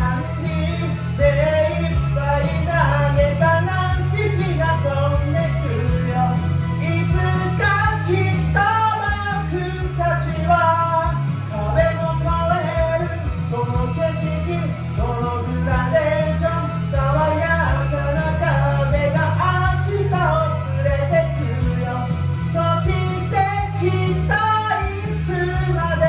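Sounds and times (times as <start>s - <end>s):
man singing rock song: 0.0s - 26.0s
rock band backing: 0.0s - 26.0s.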